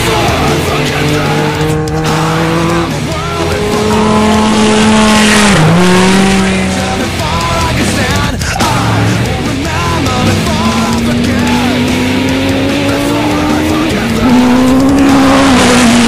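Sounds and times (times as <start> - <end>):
race vehicle engine at high revs: 0.0 - 16.0
rock music: 0.0 - 16.0.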